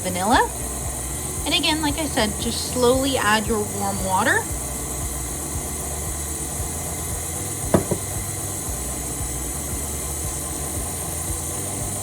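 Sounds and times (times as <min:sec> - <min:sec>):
electric mixer running: 0:00.0 - 0:12.0.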